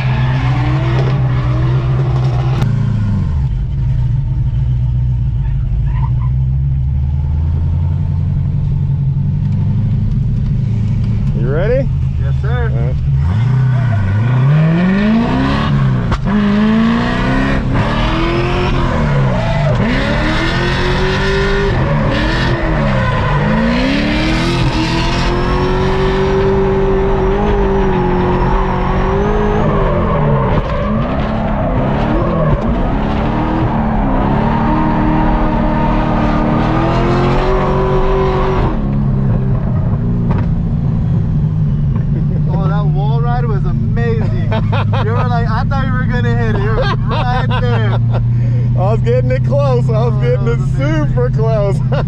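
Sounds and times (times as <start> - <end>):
tyres skidding: 0.0 - 4.4, 5.2 - 52.0
car engine revving: 0.0 - 52.0.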